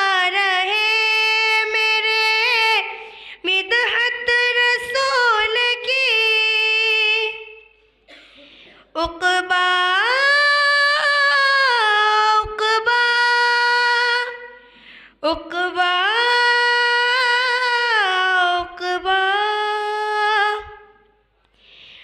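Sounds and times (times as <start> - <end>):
woman singing into microphone: 0.0 - 7.7, 8.8 - 21.0.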